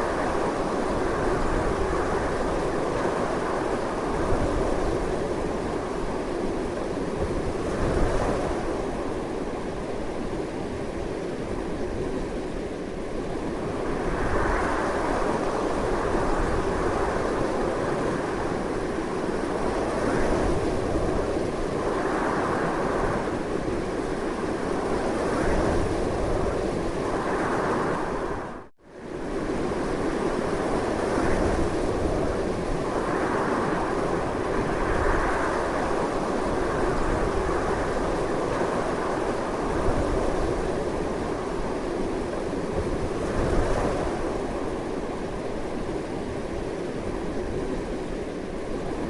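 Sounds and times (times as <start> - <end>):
strong wind blowing: 0.0 - 49.0.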